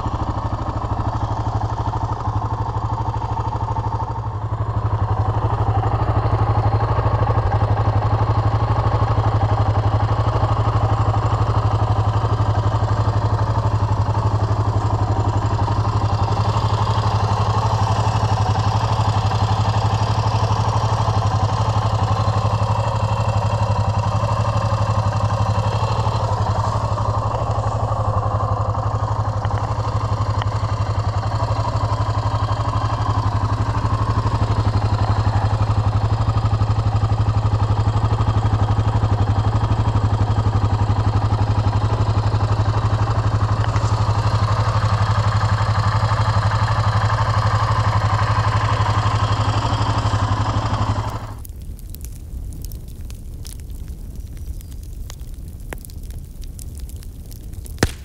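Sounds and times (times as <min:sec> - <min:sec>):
motorcycle engine idling: 0:00.0 - 0:52.8, 0:53.4 - 0:58.0.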